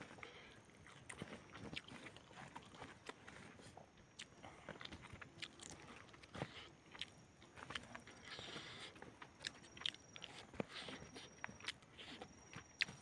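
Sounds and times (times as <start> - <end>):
chewing and biting food: 0.0 - 13.0
mouth clicks and crunches: 0.0 - 13.0.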